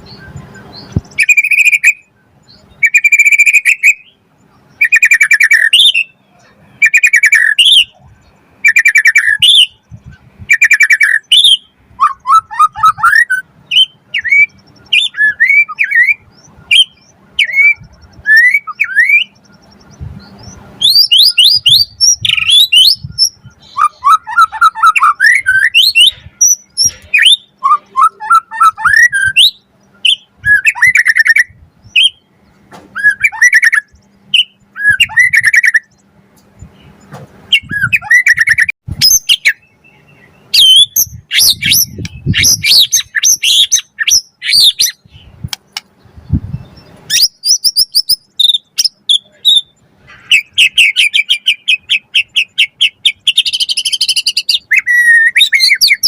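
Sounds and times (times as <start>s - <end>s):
songbird singing whistles and trills: 0.0s - 56.0s.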